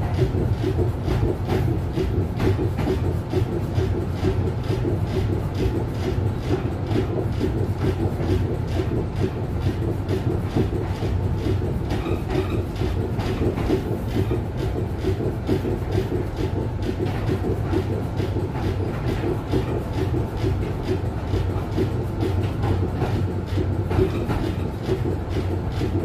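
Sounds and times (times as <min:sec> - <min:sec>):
rattle and clatter: 0:00.0 - 0:26.0.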